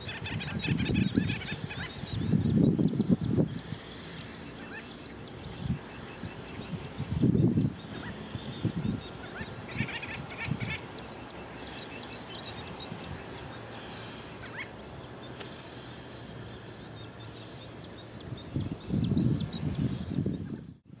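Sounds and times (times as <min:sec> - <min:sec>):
terns and gulls calling: 0:00.0 - 0:20.8.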